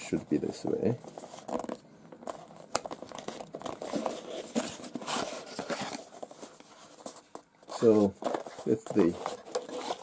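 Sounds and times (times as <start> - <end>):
cardboard box rustling: 1.0 - 10.0.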